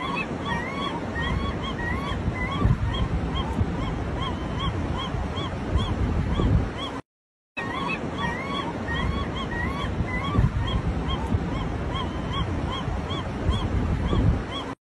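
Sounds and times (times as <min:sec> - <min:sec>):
gulls calling: 0:00.0 - 0:07.0, 0:07.6 - 0:14.8.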